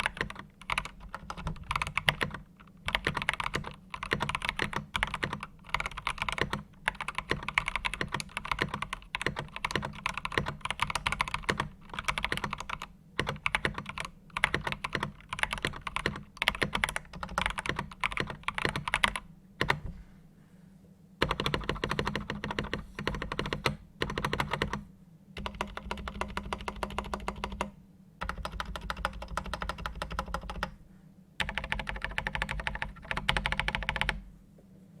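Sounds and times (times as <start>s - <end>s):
mechanical keyboard typing: 0.0s - 19.8s, 21.2s - 24.8s, 25.4s - 30.8s, 31.4s - 34.2s.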